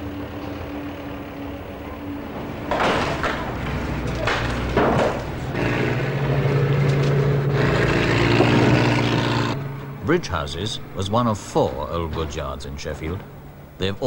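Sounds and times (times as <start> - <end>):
heavy engine droning: 0.0 - 14.0.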